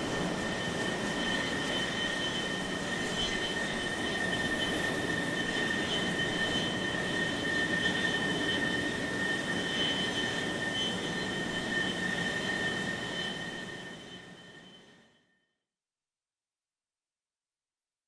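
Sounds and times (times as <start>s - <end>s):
very high rising whine: 0.0s - 15.2s
jet engine whine: 0.0s - 15.3s.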